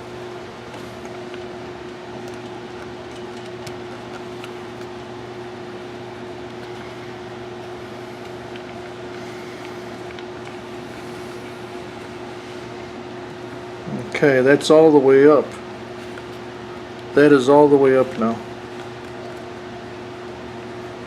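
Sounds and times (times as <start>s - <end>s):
steady tonal hum: 0.0s - 21.0s.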